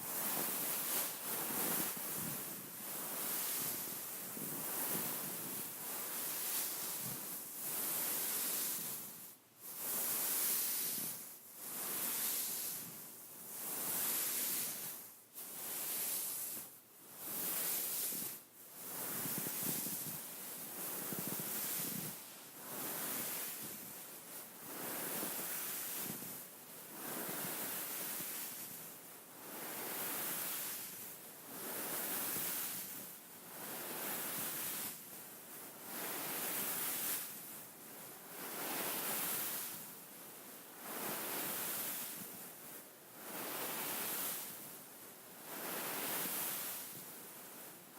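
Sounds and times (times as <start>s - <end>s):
beaded pillow rustling: 0.0s - 47.9s.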